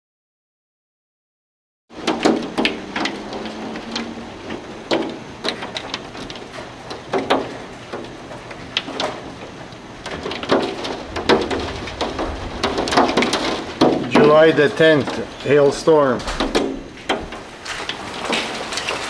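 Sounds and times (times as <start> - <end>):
hail hissing: 1.9 - 19.0
hailstones clacking on hard surfaces: 1.9 - 19.0.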